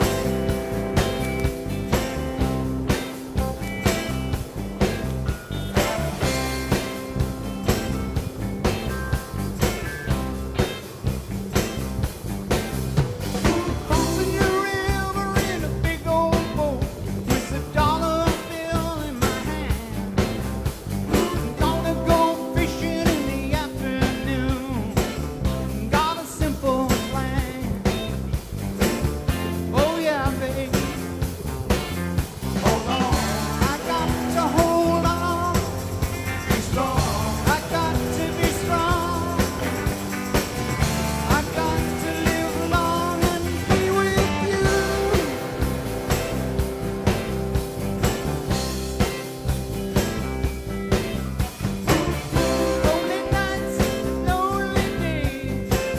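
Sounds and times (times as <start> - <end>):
rock music with drums and guitar: 0.0 - 55.9.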